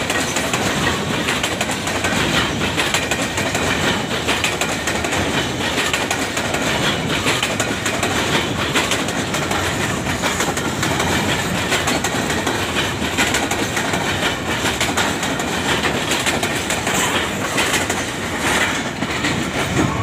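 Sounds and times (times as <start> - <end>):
train wheels rumbling on rails: 0.0 - 20.0
wheels clickety-clack on rail joints: 0.0 - 20.0.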